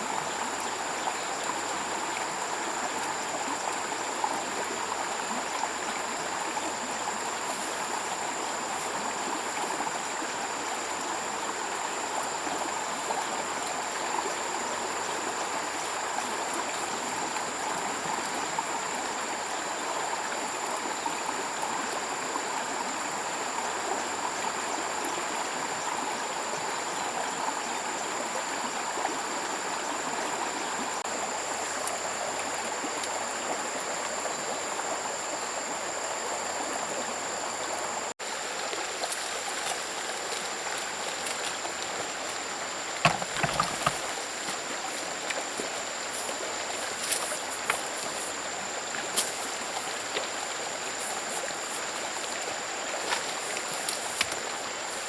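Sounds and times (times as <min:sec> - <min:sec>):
stream water running: 0:00.0 - 0:55.0.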